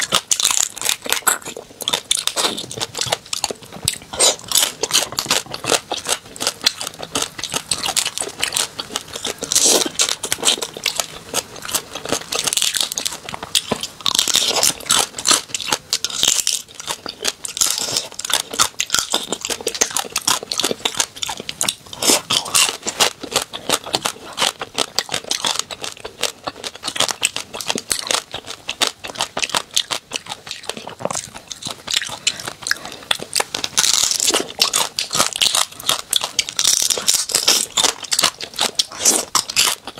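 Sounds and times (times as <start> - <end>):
crunching and chewing seafood: 0.0 - 39.9.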